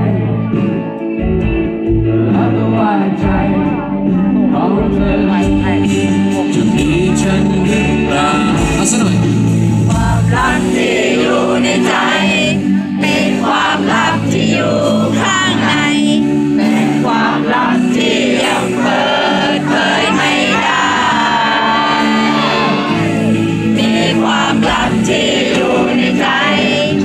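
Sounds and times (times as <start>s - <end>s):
people singing along: 0.0s - 0.8s, 2.0s - 27.0s
live rock band playing: 0.0s - 27.0s.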